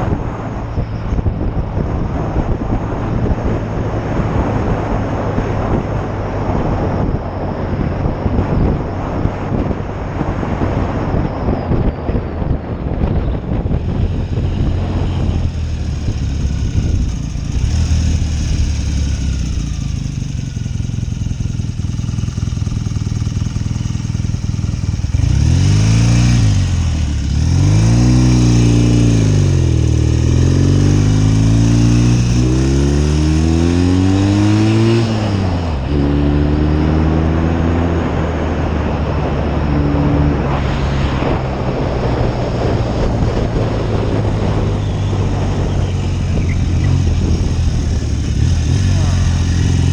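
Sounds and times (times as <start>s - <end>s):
motorcycle engine running: 0.0s - 49.9s
wind rushing on microphone: 0.0s - 49.9s.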